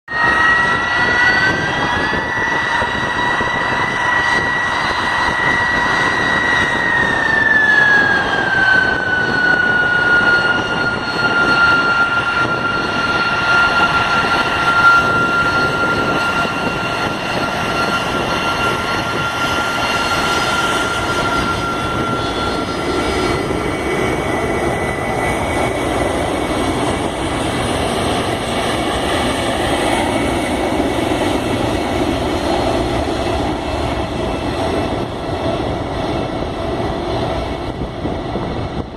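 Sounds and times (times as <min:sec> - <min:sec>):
jet engine high whine: 0:00.1 - 0:38.9
jet engine roar: 0:00.1 - 0:38.9.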